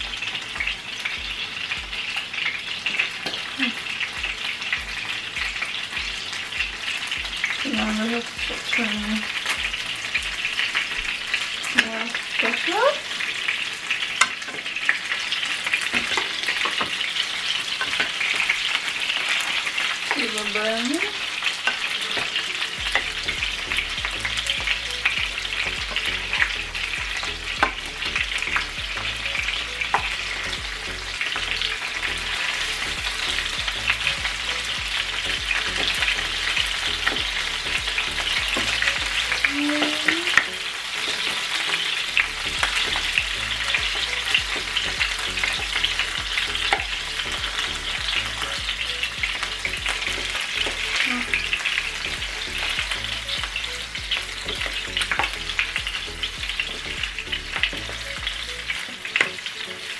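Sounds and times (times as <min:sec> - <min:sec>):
meatballs sizzling in a pan: 0:00.0 - 0:59.9.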